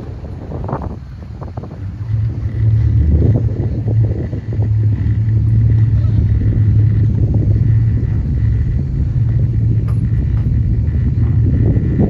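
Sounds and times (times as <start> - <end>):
boat motor droning: 0.0 - 12.0.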